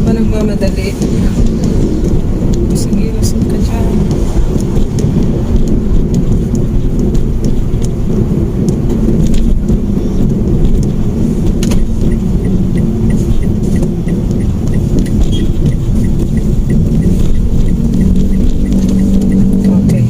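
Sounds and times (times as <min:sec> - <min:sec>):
car engine and road rumble: 0:00.0 - 0:20.0
faint regular ticking: 0:00.1 - 0:20.0.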